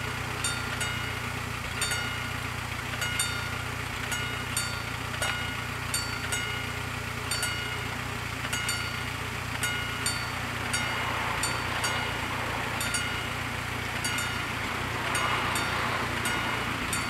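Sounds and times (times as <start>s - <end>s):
car engine idling: 0.0s - 17.0s
level-crossing bells ringing: 0.2s - 17.0s.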